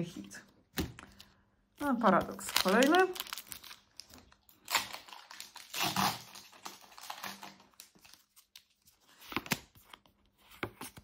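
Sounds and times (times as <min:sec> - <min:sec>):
card wrapper rustling: 0:02.1 - 0:11.0.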